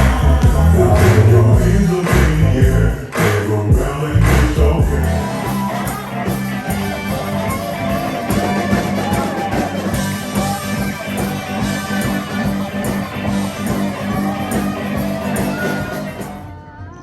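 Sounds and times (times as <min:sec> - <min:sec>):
live band with guitar: 0:00.0 - 0:02.5, 0:04.2 - 0:16.5.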